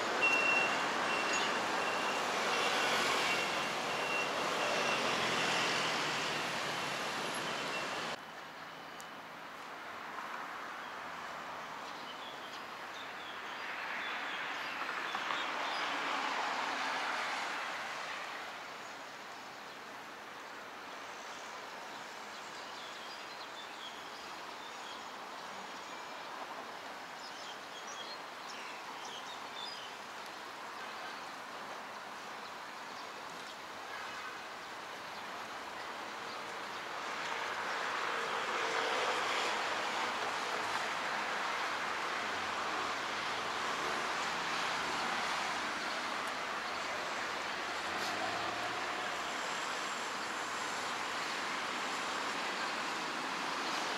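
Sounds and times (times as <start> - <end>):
street traffic rush: 0.0 - 53.9.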